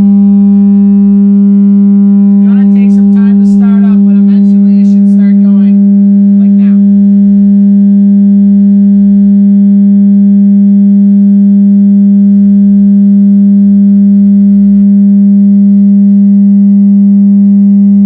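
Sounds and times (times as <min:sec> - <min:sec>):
loud steady tone: 0:00.0 - 0:18.0.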